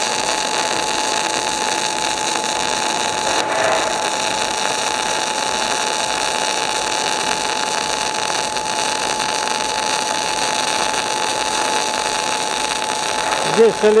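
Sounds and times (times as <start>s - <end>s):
welding arc crackling hiss: 0.0s - 14.0s
steady high whine: 0.8s - 14.0s.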